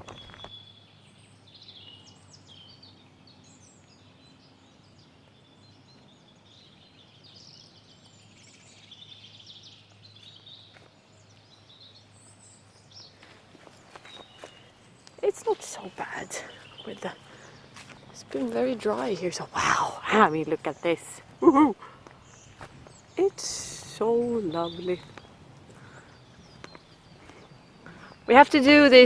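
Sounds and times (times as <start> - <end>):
faint birdsong chirps and trills: 0.0 - 29.0.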